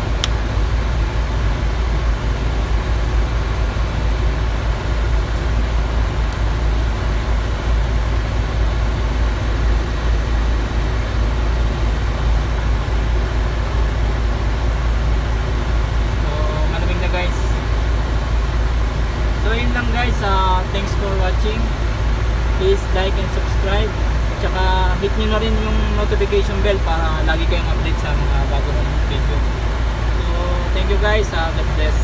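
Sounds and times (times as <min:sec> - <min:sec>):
blower fan pushing air: 0:00.0 - 0:32.0
truck engine idling: 0:00.0 - 0:32.0.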